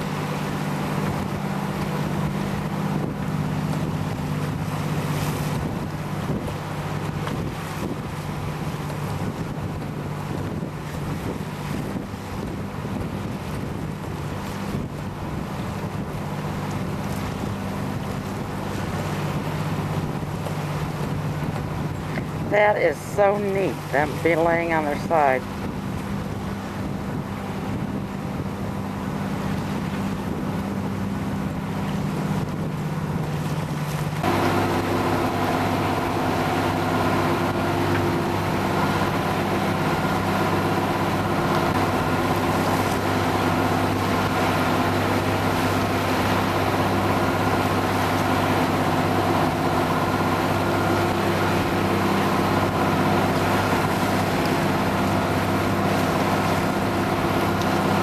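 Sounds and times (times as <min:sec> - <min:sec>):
motorboat engine droning: 0:00.0 - 0:58.0
water noise: 0:00.0 - 0:58.0
wind: 0:00.0 - 0:58.0.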